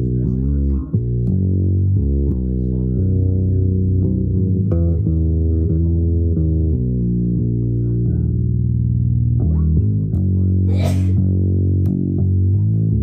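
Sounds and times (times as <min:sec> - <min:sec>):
bass guitar playing low notes: 0:00.0 - 0:13.0.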